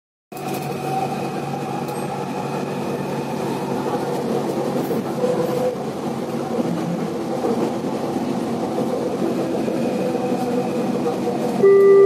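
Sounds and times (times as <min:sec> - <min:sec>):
train rolling noise: 0:00.3 - 0:12.0.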